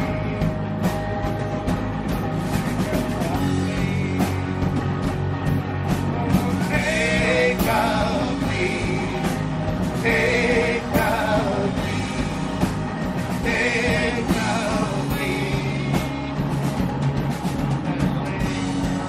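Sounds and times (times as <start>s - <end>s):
drums: 0.0s - 19.0s
electric guitars: 0.0s - 19.0s.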